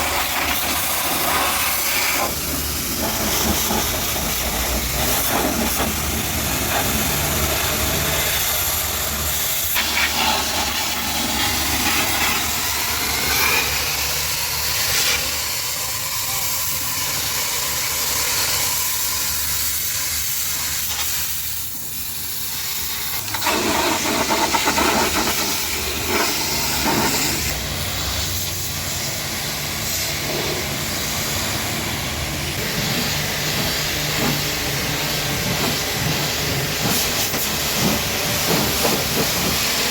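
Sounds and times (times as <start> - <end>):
pressure washer jet hissing: 0.0 - 39.9.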